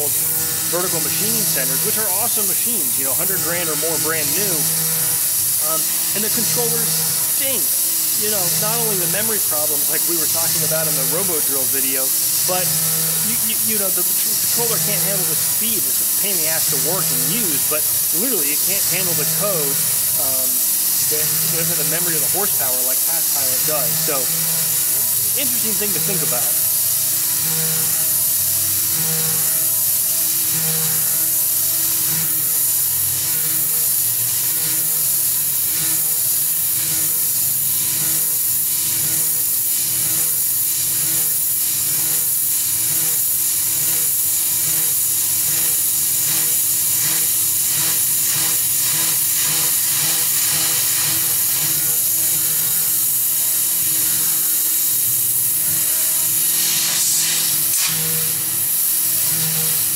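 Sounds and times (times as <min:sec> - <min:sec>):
mist coolant hissing: 0:00.0 - 0:59.9
mill cutting aluminum ticking: 0:00.1 - 0:59.9.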